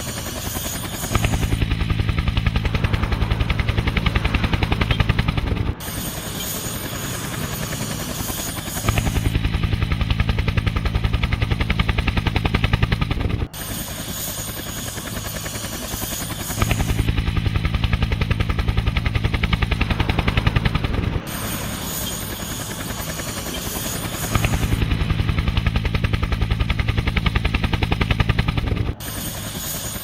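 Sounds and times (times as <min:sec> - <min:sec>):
helicopter rotor blades beating: 0:00.0 - 0:30.0.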